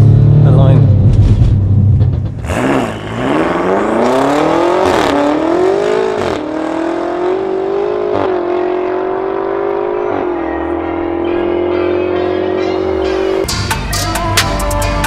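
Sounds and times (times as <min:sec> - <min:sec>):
car engine accelerating hard: 0:00.0 - 0:13.5.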